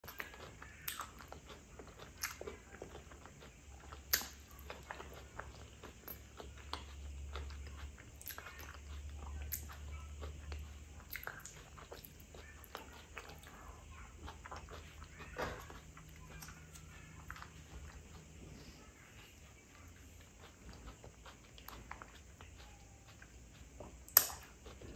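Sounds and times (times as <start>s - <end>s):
chewing and wet mouth clicks: 0.0s - 18.4s, 19.4s - 24.9s
faint low hum: 0.0s - 24.9s.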